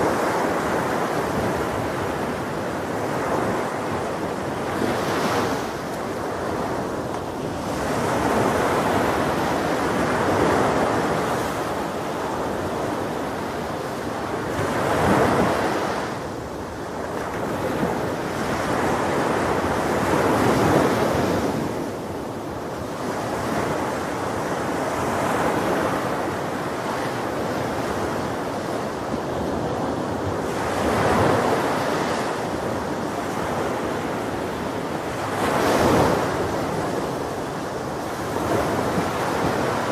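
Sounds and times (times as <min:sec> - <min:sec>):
ocean waves breaking on beach: 0:00.0 - 0:39.9
wind buffeting microphone: 0:00.0 - 0:39.9.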